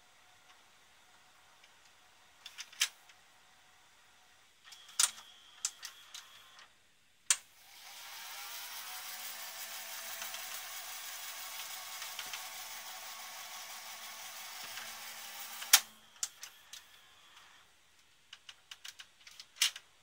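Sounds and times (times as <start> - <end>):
steady whirring hiss: 0.0 - 18.1.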